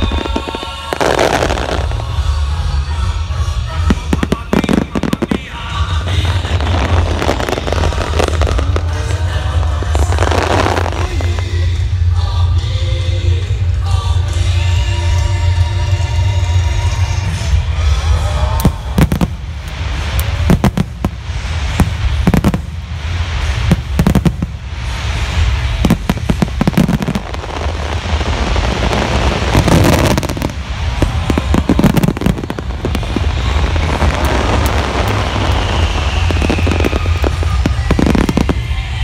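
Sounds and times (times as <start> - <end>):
fireworks bangs: 0.0 - 2.4, 3.2 - 12.1, 18.1 - 39.0
fireworks crackle and rumble: 0.0 - 39.0.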